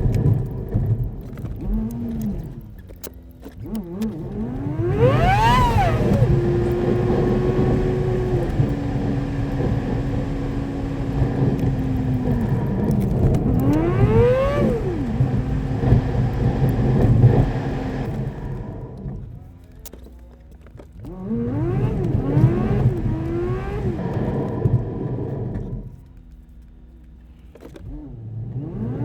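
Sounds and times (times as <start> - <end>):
car engine accelerating: 0.0 - 19.8, 20.7 - 29.0.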